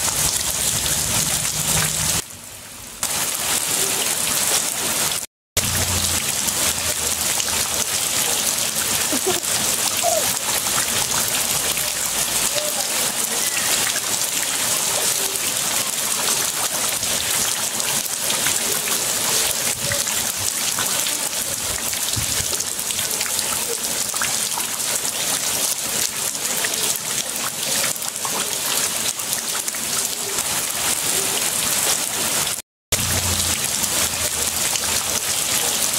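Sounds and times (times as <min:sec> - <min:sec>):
heavy rain on wet stone: 0:00.0 - 0:35.9
rain splashing into flowing water: 0:00.0 - 0:35.9.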